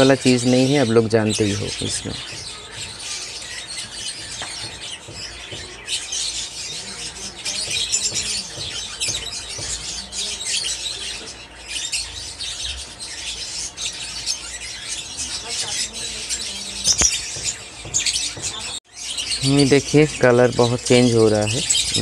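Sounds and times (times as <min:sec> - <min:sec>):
cage birds chirping and squawking: 0:00.0 - 0:22.0.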